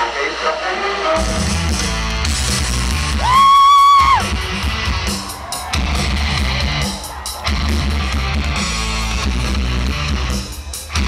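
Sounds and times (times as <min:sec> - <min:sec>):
rock music: 0:00.0 - 0:11.0.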